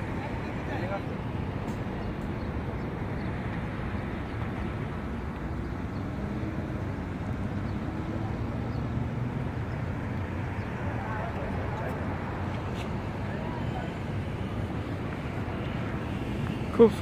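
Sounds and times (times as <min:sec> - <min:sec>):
faint engine hum: 0:00.0 - 0:17.0
traffic rumble: 0:00.0 - 0:17.0.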